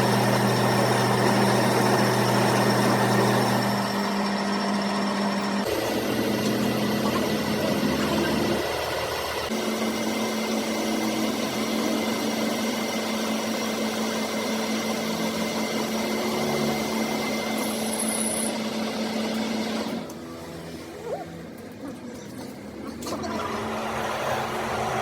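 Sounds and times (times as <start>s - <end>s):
electric power tool humming: 0.0s - 20.2s.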